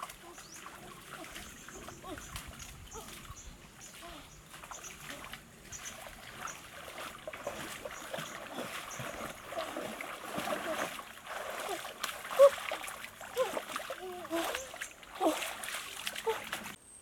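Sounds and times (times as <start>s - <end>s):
water splashing: 0.0s - 16.8s.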